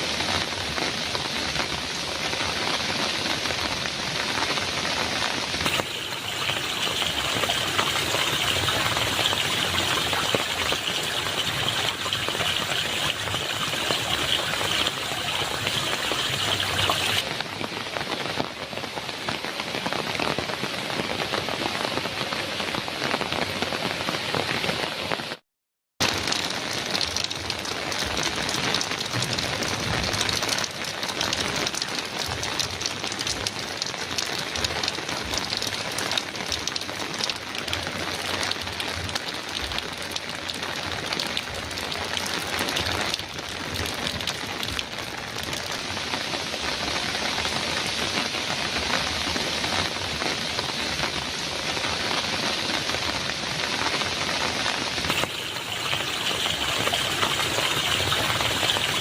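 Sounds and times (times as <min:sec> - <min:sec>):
heavy rain on a metal roof: 0:00.0 - 0:25.4, 0:26.0 - 0:59.0.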